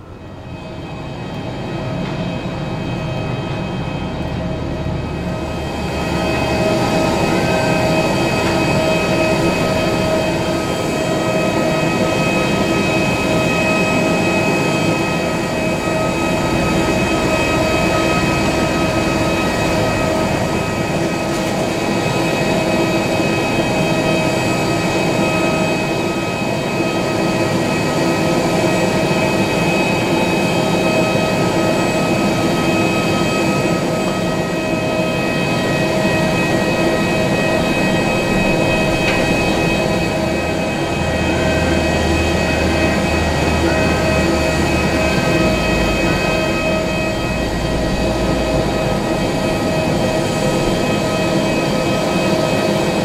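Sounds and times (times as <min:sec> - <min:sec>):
jet engines running steadily: 0:00.0 - 0:53.0.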